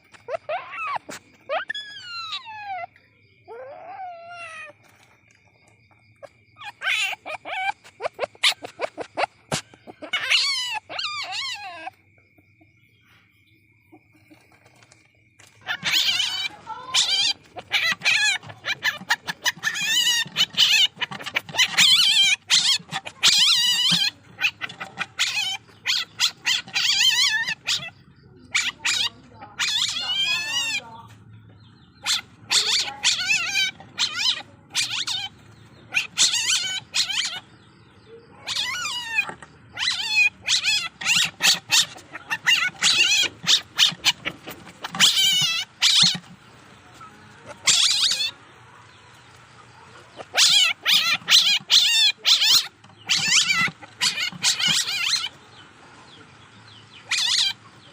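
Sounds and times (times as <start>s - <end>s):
civet squealing: 0.0s - 4.9s, 6.1s - 12.1s, 15.4s - 37.8s, 38.4s - 48.5s, 49.7s - 55.4s, 57.0s - 57.6s.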